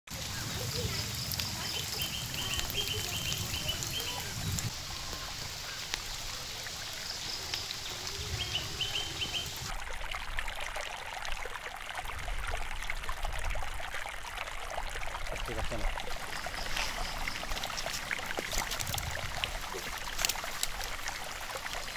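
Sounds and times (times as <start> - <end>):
water trickling: 0.1 - 21.9.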